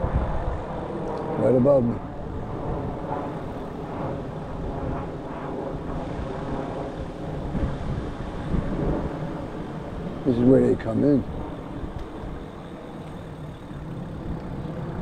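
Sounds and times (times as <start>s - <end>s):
airplane drone: 0.0s - 15.0s.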